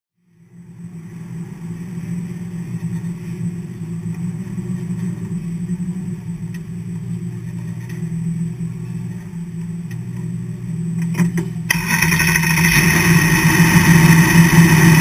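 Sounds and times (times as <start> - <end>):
race car engine idling: 0.3 - 15.0.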